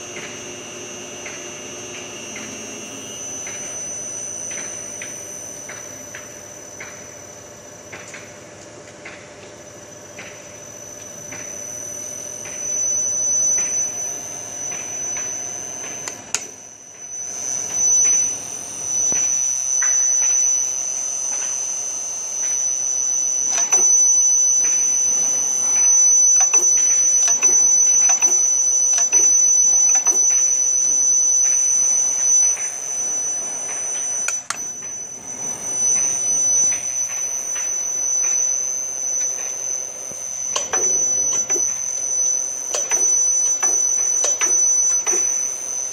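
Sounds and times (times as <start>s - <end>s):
drill-tapping machine whining: 0.0s - 45.9s.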